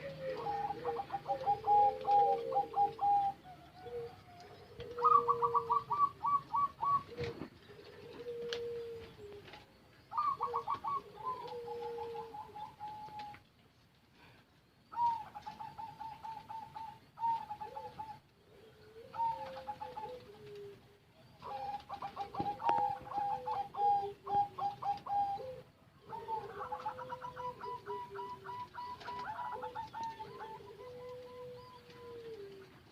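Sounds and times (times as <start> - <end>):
doves cooing: 0.0 - 13.6, 14.2 - 32.9.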